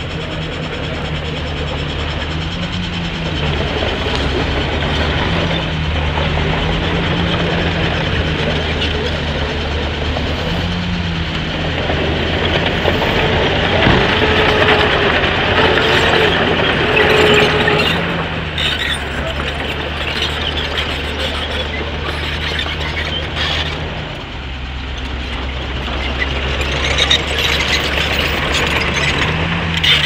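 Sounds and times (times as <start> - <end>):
diesel engine of earthmoving machine: 0.0 - 30.0.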